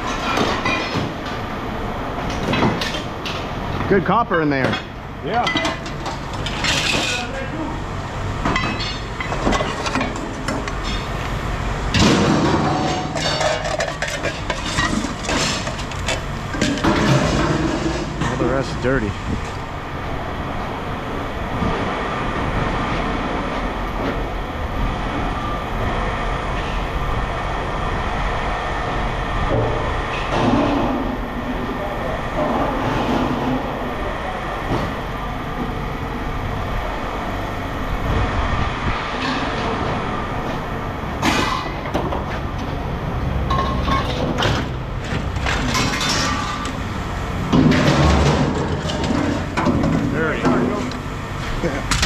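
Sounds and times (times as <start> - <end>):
machinery rumble: 0.0 - 52.0.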